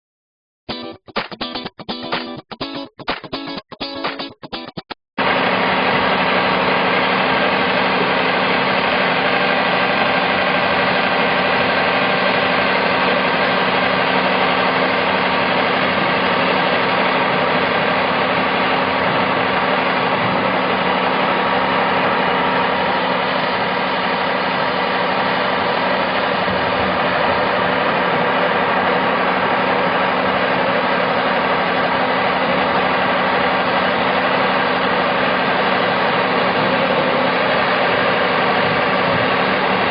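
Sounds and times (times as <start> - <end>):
engine running steadily: 0.8 - 39.9.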